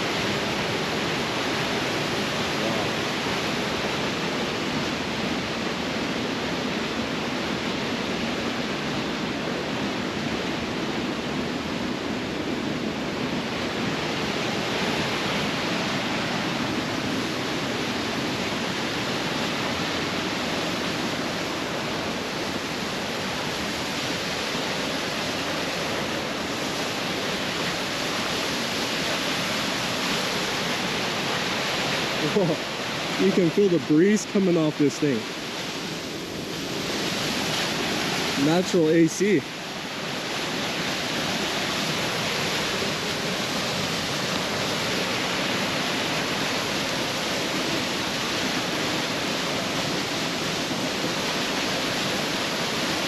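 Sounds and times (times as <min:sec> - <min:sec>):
waterfall roaring: 0:00.0 - 0:53.0.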